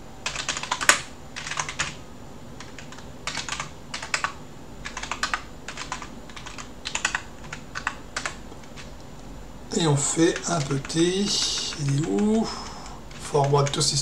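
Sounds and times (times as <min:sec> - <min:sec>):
keyboard typing: 0:00.2 - 0:02.0, 0:02.6 - 0:09.2, 0:09.8 - 0:13.9.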